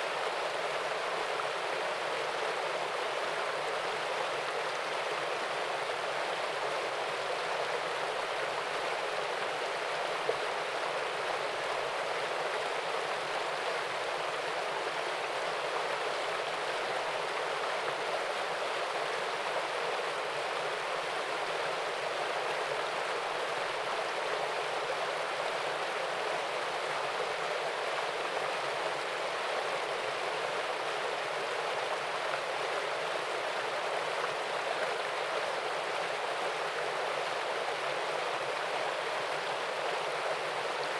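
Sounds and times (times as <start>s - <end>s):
waterfall and stream rushing: 0.0s - 40.9s.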